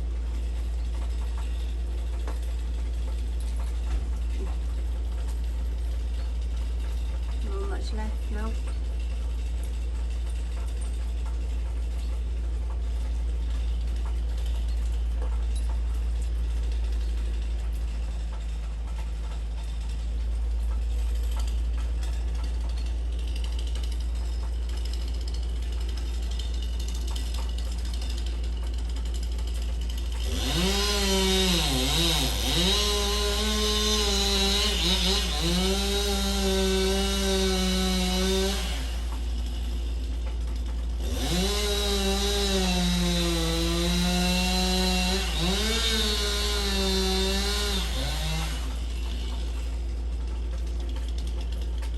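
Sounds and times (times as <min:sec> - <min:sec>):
chainsaw cutting tree: 0:00.0 - 0:51.9.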